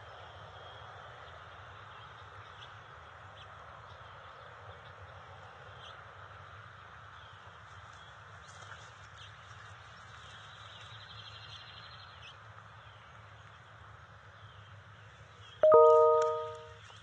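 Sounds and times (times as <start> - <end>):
songbirds chirping: 0.6 - 17.0.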